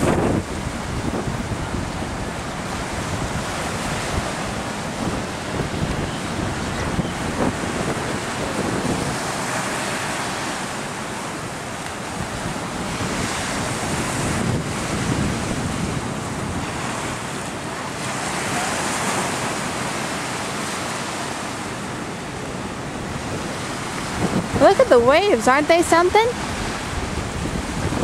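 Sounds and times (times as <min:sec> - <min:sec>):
ocean surf breaking: 0:00.0 - 0:28.0
wind on microphone: 0:00.0 - 0:28.0.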